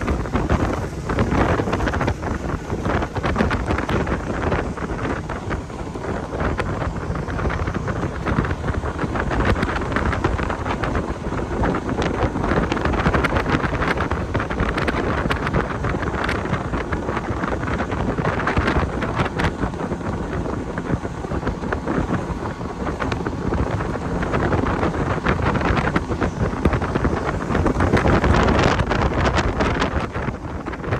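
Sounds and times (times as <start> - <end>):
boat motor: 0.0 - 30.9
wind buffeting microphone: 0.0 - 30.9.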